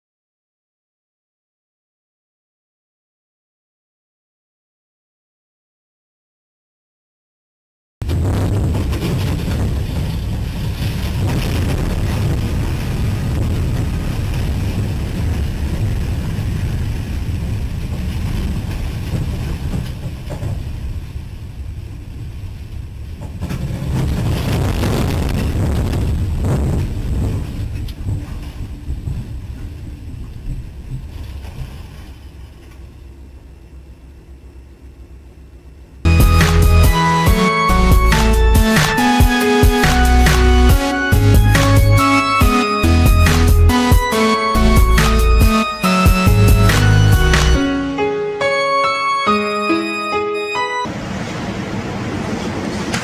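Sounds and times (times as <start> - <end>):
train wreck rumble and roar: 8.0 - 48.6, 50.8 - 53.0.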